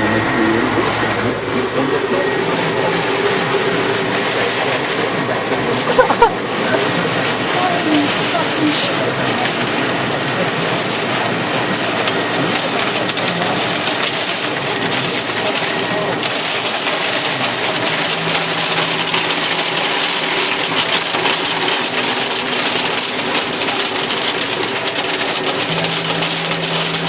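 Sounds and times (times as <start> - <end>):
heavy rain hissing: 0.0 - 27.0
tractor engine running: 0.0 - 27.0.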